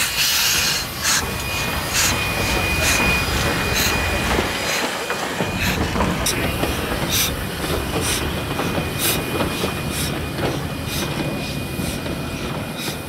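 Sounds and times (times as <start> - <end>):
steam locomotive exhaust beats: 0.0 - 13.0
wheels rumbling and clanking on rails: 0.0 - 13.0.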